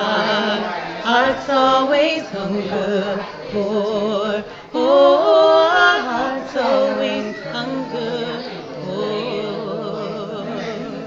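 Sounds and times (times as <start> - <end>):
voices singing in harmony: 0.0 - 11.0.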